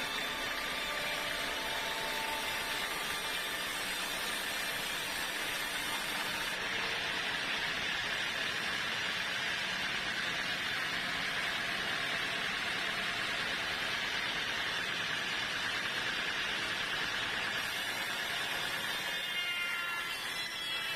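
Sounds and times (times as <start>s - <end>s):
sawmill machinery running: 0.0s - 20.9s.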